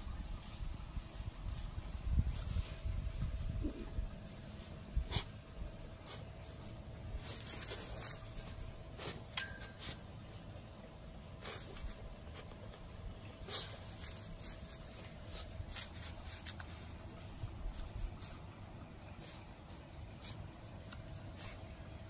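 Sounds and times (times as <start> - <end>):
faint steady hum: 0.0 - 22.0
grass rustling: 0.0 - 22.0.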